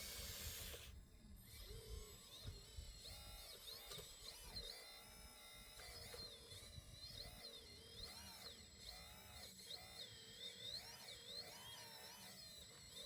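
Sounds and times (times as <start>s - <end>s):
small electric motor and pump whining: 0.0s - 13.0s.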